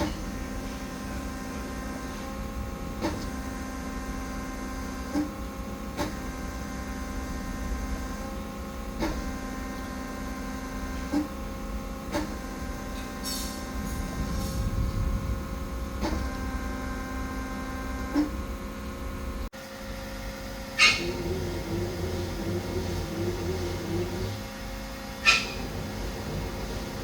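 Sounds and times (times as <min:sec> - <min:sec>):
lathe machine hum: 0:00.0 - 0:27.0.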